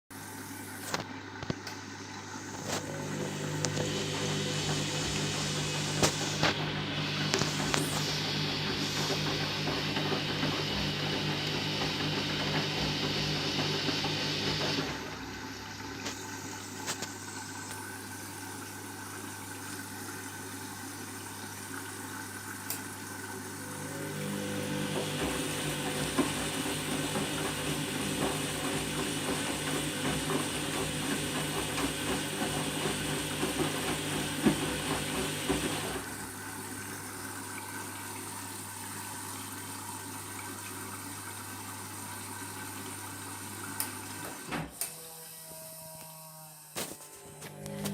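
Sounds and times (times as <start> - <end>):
washing machine hum: 0.1 - 47.9
water running in: 0.1 - 47.9.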